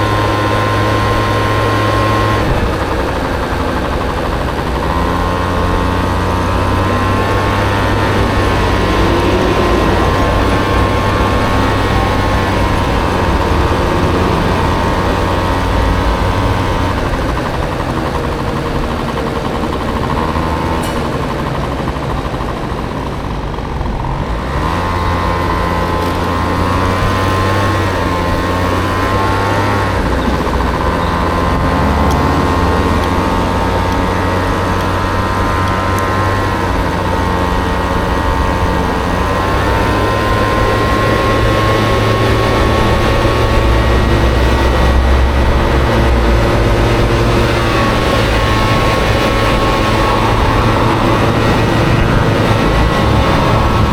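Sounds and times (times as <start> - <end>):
scooter engine running: 0.0 - 53.9.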